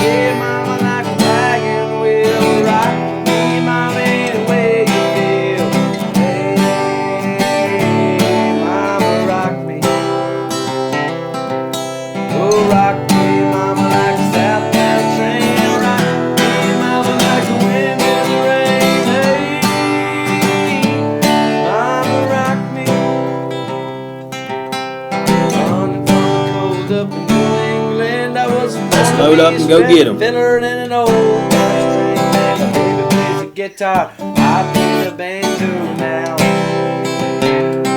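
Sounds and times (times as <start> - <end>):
country music on acoustic guitar: 0.0 - 37.9.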